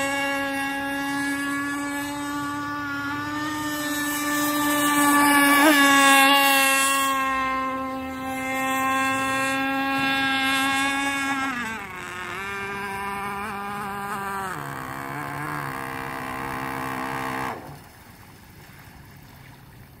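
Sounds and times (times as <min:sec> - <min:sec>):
model boat engine at full throttle: 0:00.0 - 0:20.0.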